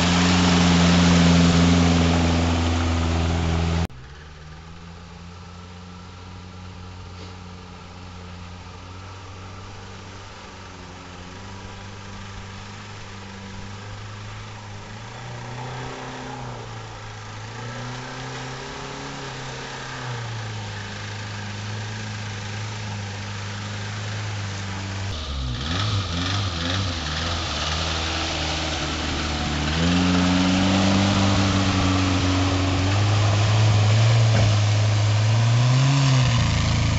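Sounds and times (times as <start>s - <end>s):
off-road vehicle engine revving: 0.0s - 36.9s.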